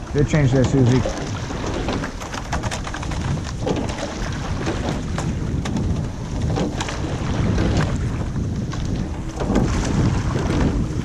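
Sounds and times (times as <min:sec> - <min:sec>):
oars clicking in oarlocks: 0:00.0 - 0:11.0
water rushing past boat: 0:00.0 - 0:11.0
wind buffeting microphone: 0:00.0 - 0:11.0.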